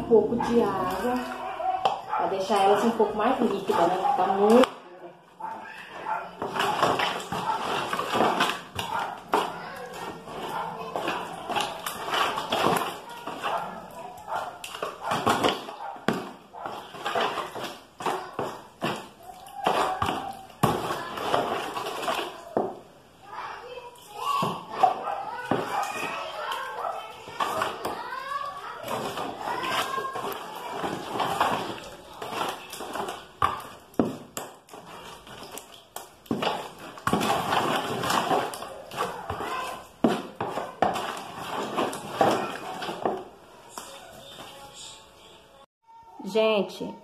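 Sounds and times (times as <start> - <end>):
wet putty mixing strokes: 0.0 - 44.7.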